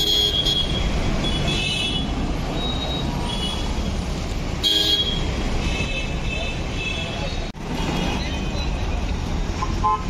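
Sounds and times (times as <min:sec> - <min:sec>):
traffic engine rumble: 0:00.0 - 0:10.0.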